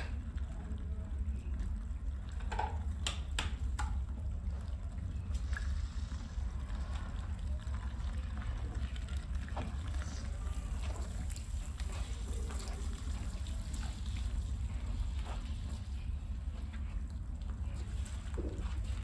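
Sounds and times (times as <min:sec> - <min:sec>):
low machine rumble: 0:00.0 - 0:19.0
water splashing and trickling: 0:03.6 - 0:19.0.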